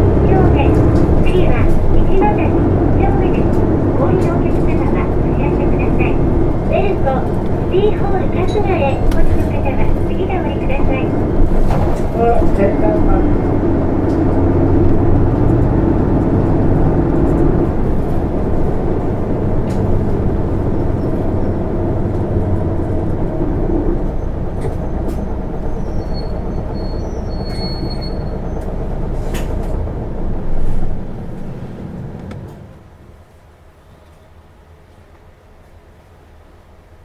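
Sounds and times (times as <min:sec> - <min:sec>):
road noise: 0:00.0 - 0:35.4
bus diesel engine running: 0:00.0 - 0:37.0.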